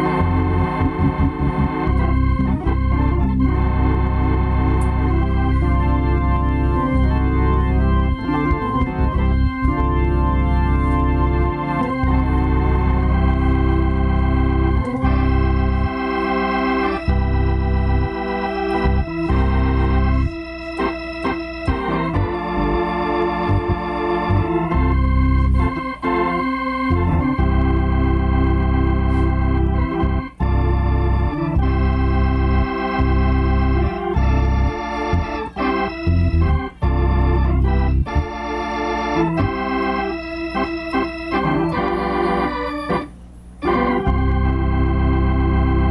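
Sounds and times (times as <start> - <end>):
organ chords over bass line: 0.0 - 45.9.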